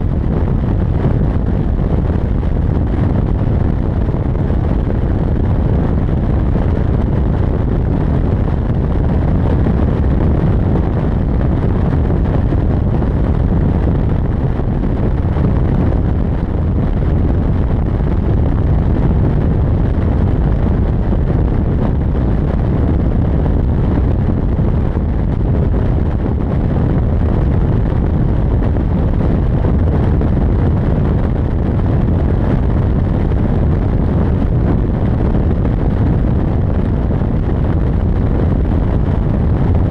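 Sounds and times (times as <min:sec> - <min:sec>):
low road and engine rumble: 0:00.0 - 0:39.9.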